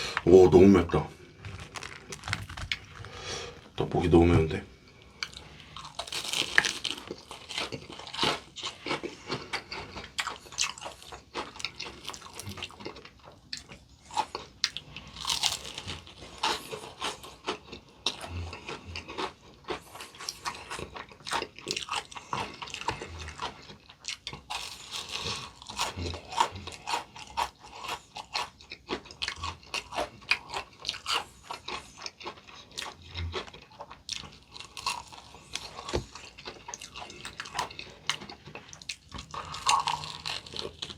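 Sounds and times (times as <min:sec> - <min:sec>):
crunching fried chicken: 0:01.4 - 0:03.6, 0:05.2 - 0:40.9.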